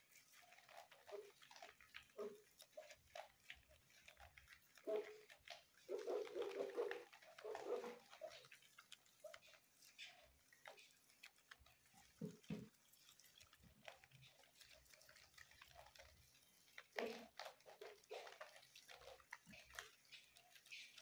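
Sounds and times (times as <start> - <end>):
guinea pigs chewing lettuce: 0.0 - 21.0
small irregular clicks: 0.0 - 21.0.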